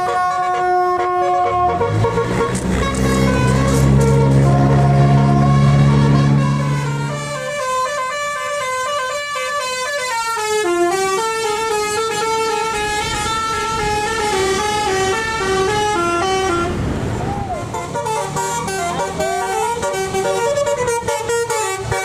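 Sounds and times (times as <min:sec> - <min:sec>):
bus musical horn playing tune: 0:00.0 - 0:16.9, 0:17.6 - 0:22.0.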